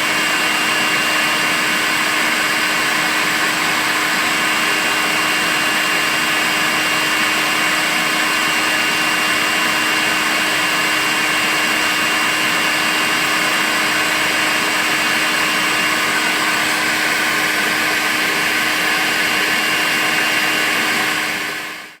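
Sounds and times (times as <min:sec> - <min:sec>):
cordless vacuum cleaner running: 0:00.0 - 0:22.0.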